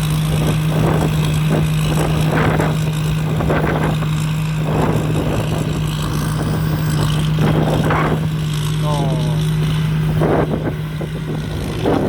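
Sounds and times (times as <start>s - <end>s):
combine harvester engine droning: 0.0s - 12.0s
rushing machinery noise: 0.0s - 12.0s.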